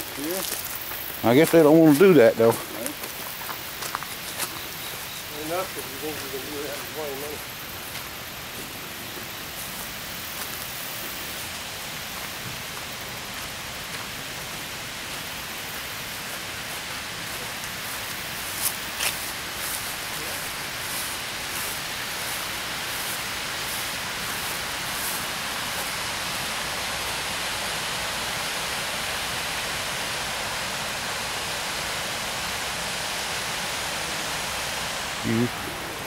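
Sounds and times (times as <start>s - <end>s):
water rushing over a dam: 0.0s - 36.0s.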